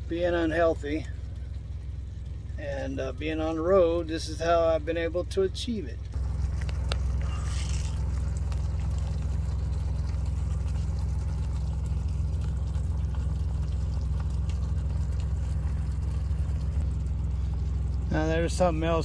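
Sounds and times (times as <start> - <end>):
constant low hum: 0.0 - 19.0.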